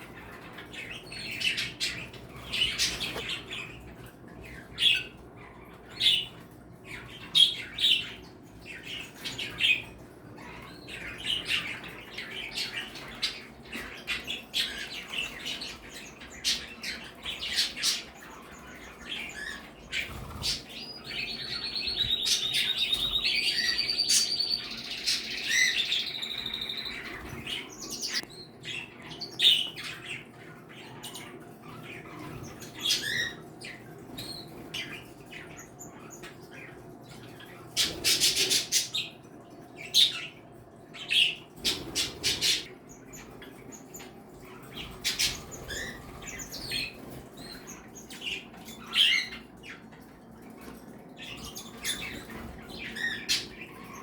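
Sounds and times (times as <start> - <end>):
cage birds chirping and calling: 0.0 - 54.0
rapid trilled birdsong: 0.0 - 54.0.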